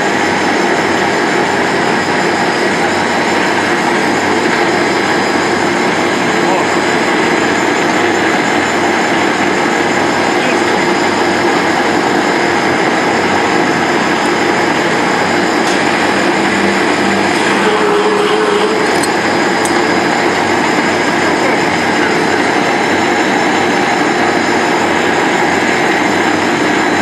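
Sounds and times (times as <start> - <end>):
thread rolling machine running: 0.0 - 27.0.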